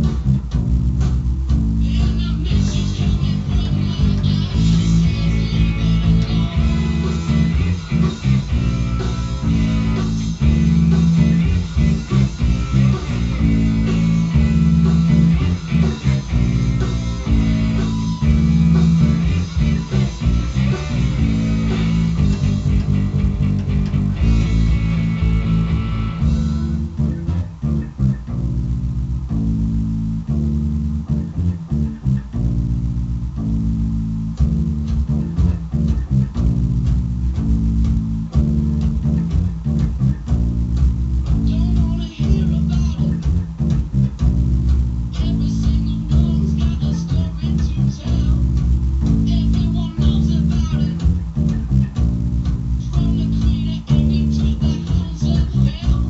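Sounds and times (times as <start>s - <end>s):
electric bass guitar riff: 0.0s - 56.0s
rock recording with guitar: 0.0s - 56.0s.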